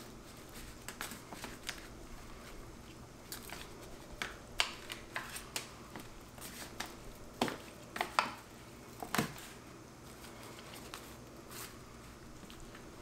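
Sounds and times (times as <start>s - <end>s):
foil pan crinkling: 0.0s - 11.8s.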